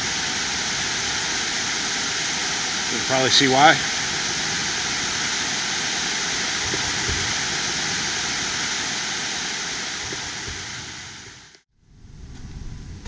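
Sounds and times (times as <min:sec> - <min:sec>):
small waterfall rushing and splashing: 0:00.0 - 0:11.6.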